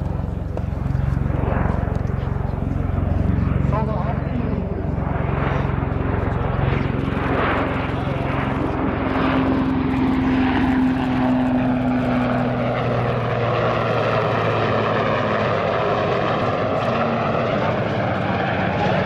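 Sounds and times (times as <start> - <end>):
helicopter in flight: 0.0 - 19.0.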